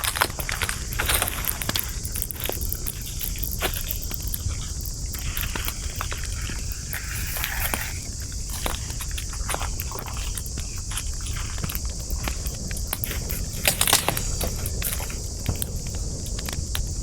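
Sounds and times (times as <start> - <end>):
campfire crackling and popping: 0.0 - 17.0
high hiss: 0.0 - 17.0.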